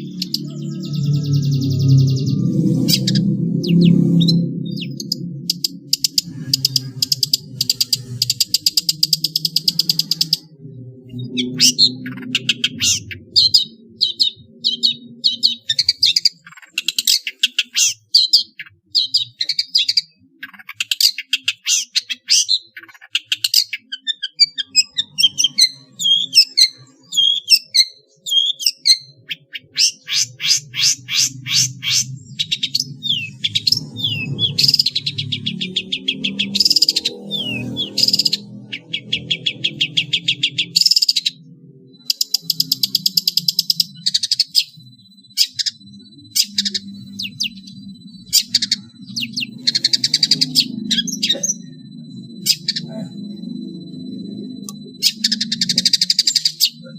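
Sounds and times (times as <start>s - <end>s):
shrike singing: 0.0s - 56.9s.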